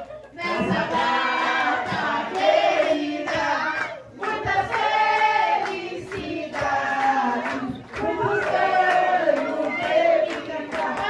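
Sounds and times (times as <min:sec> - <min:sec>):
group of people singing: 0:00.3 - 0:11.0.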